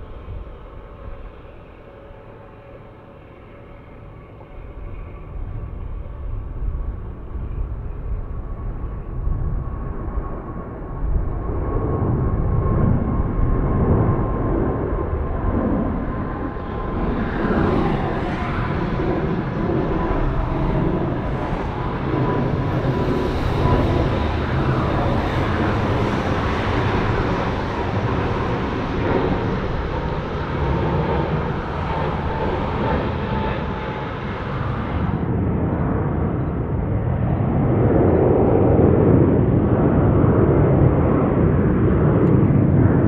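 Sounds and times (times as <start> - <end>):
high engine whine: 0.0 - 43.0
jet engines roaring: 0.0 - 43.0.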